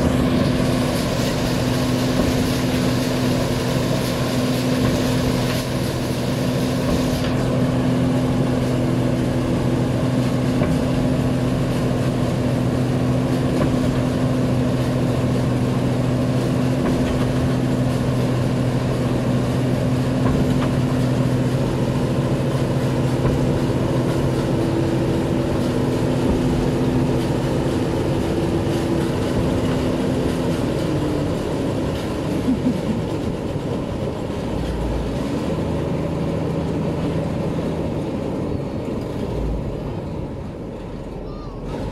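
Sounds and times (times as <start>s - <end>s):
tracks churning in mud: 0.0s - 41.0s
combine harvester engine running: 0.0s - 41.9s.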